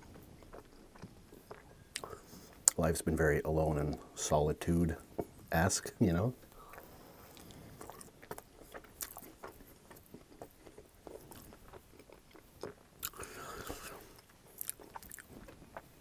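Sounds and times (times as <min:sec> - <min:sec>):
chewing pizza: 0:00.0 - 0:16.0.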